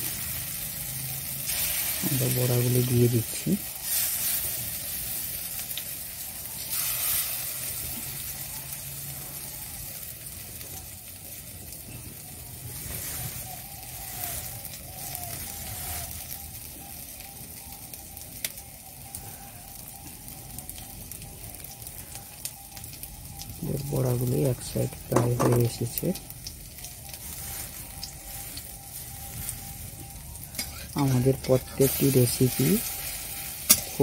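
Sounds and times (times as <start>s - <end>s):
fritters sizzling in oil: 0.0s - 34.0s.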